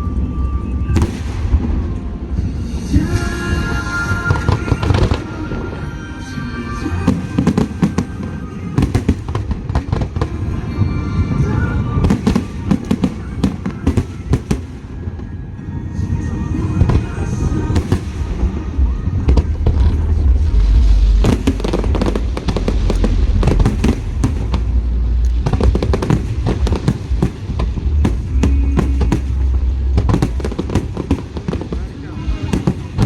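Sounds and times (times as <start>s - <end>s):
fireworks bursting with bangs: 0.0s - 33.0s.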